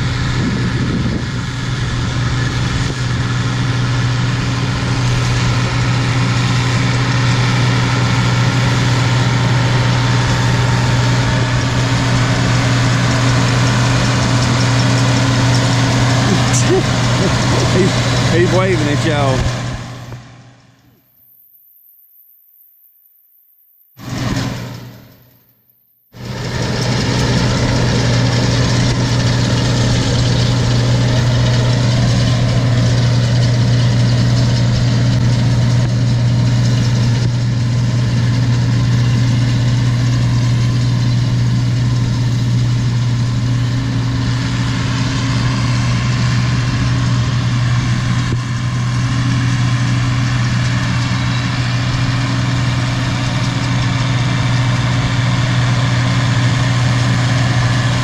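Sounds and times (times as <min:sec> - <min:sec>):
tractor engine running: 0:00.0 - 0:22.3, 0:23.9 - 0:58.0.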